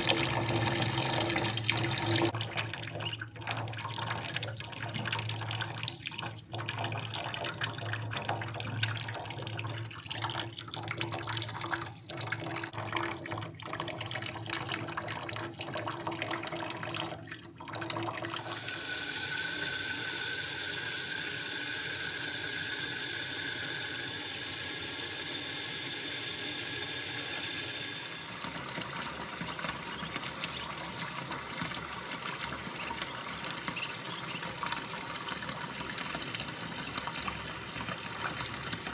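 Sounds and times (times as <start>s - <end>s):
faucet running into sink: 0.0s - 38.9s.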